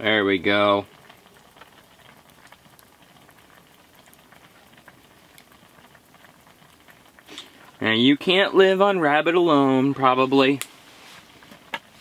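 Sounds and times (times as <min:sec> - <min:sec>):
stew bubbling and popping: 0:00.0 - 0:12.0.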